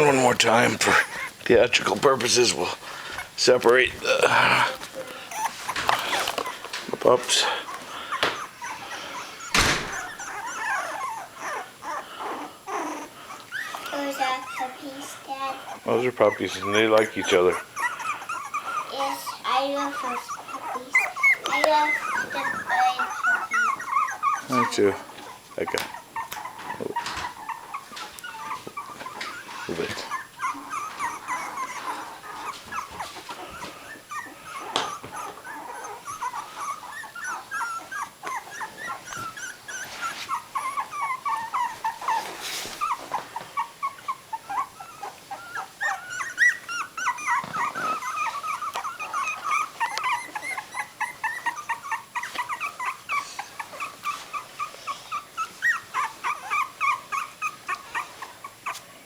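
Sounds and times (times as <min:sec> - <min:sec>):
puppies whimpering and squealing: 0:00.0 - 0:59.0.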